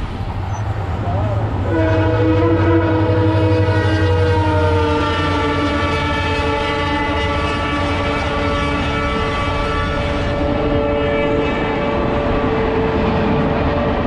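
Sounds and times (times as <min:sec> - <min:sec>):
low rumble of passing train: 0:00.0 - 0:14.0
train horn long blast: 0:01.6 - 0:13.3.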